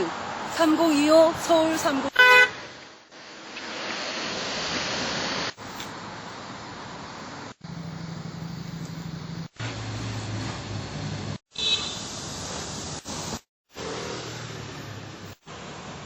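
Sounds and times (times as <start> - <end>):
cars passing on street: 0.0 - 16.0.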